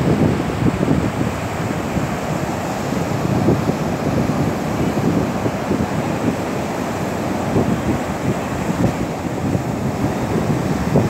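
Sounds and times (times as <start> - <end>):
surf washing on shore: 0.0 - 11.0
wind buffeting microphone: 0.0 - 11.0.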